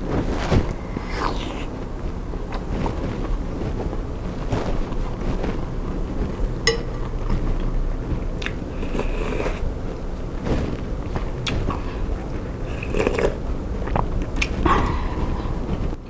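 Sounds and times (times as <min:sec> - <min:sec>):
close chewing of meatballs: 0:00.0 - 0:16.0.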